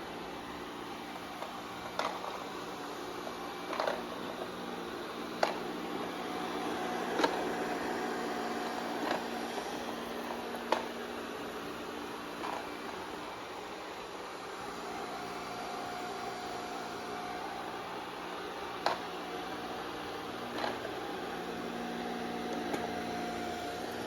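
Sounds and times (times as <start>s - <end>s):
robot vacuum whirring: 0.9s - 24.0s.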